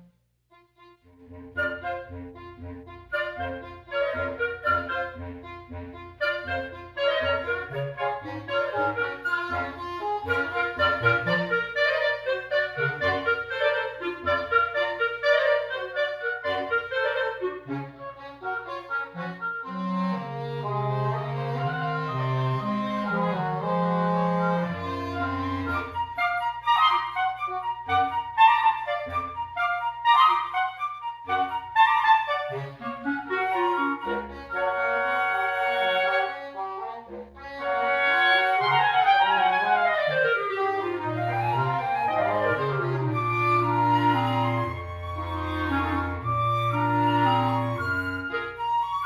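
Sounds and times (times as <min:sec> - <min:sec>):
wind quintet playing: 0:00.0 - 0:49.0.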